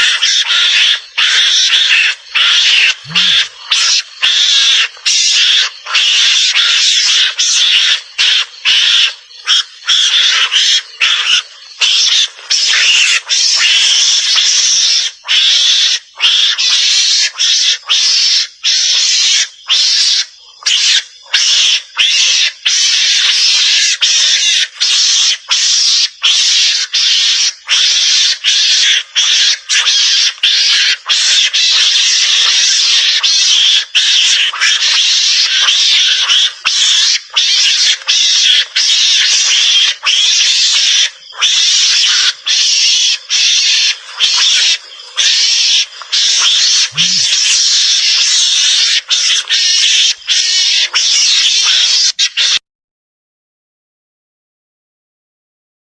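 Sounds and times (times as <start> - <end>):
harsh noisy lure calls: 0.0 - 52.6.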